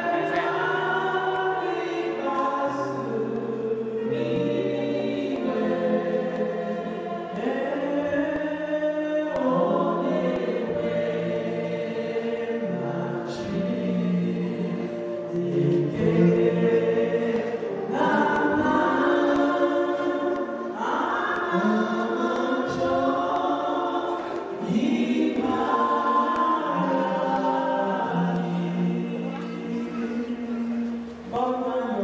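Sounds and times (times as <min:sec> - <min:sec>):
woman singing gospel: 0:00.0 - 0:32.0.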